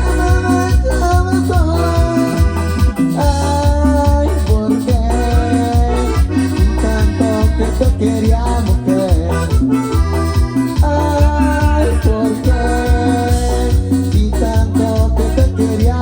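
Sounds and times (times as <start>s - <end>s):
keyboard accordion-like melody: 0.0s - 16.0s
shaker rhythm: 0.0s - 16.0s
steady bass beat: 0.0s - 16.0s.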